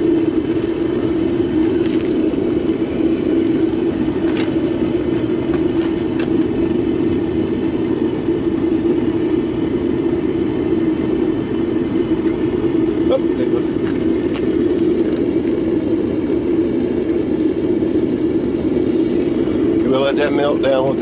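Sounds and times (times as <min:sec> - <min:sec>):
propane burner roaring: 0:00.0 - 0:21.0.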